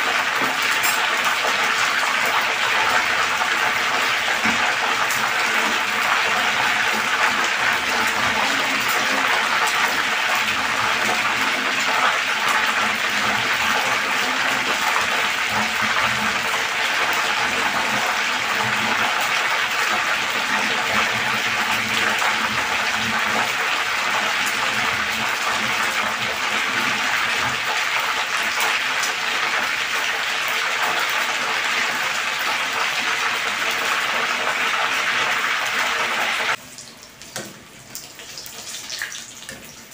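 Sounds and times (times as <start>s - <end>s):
fish sizzling in hot oil: 0.0s - 36.6s.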